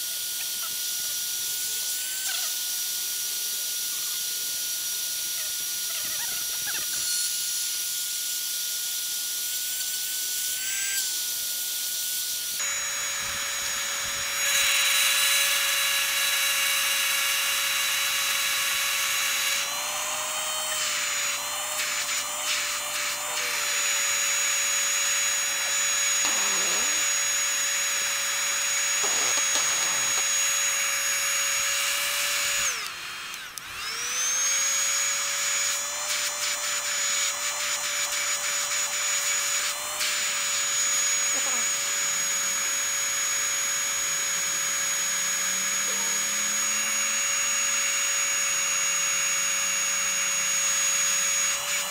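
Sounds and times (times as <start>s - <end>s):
hot air gun fan whining: 0.0s - 51.9s.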